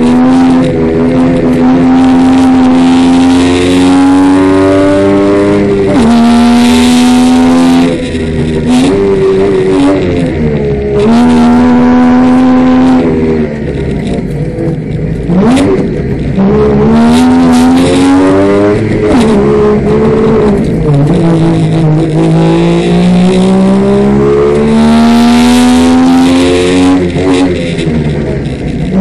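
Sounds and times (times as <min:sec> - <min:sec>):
car engine accelerating through gears: 0:00.0 - 0:29.0.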